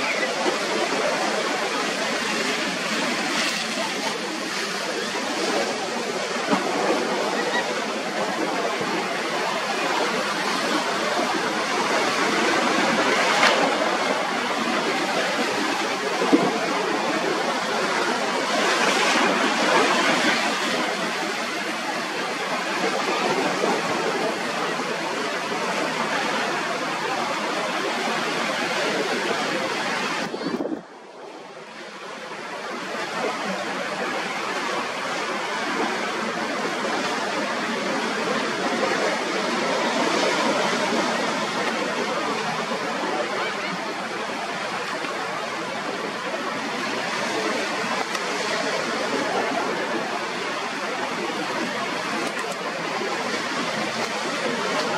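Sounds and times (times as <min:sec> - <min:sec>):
waves breaking: 0:00.0 - 0:54.9
wind: 0:00.0 - 0:54.9.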